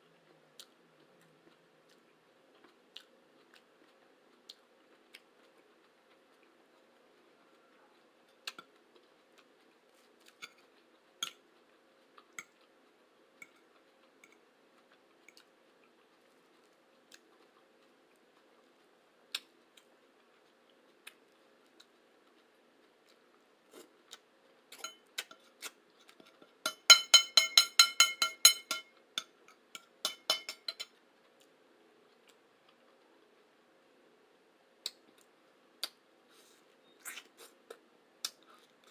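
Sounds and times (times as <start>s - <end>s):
person chewing food: 0.0s - 33.4s
faint steady hum: 0.0s - 38.9s.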